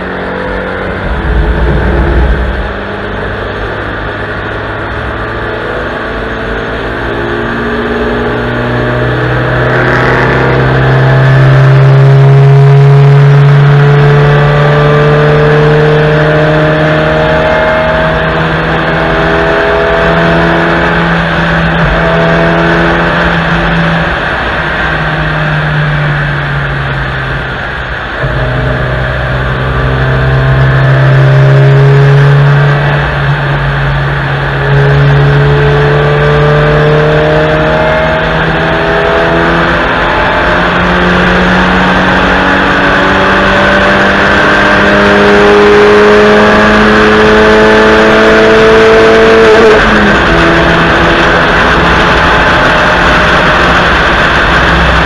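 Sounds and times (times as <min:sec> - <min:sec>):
car engine revving under full throttle: 0:00.0 - 0:55.0
road and wind noise: 0:00.0 - 0:55.0.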